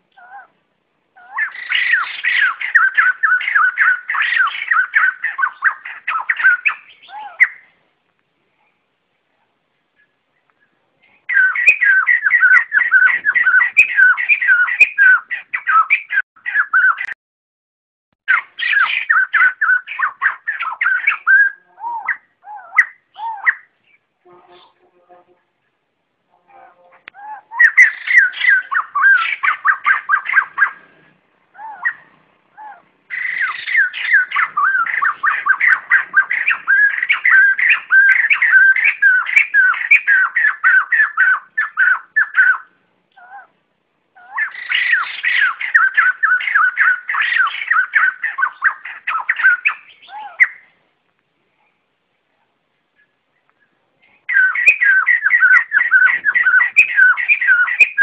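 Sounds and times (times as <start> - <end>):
birds calling rapid notes: 1.1 - 7.8, 10.0 - 17.2, 18.3 - 25.8, 26.5 - 43.4, 44.1 - 50.8, 53.0 - 58.0.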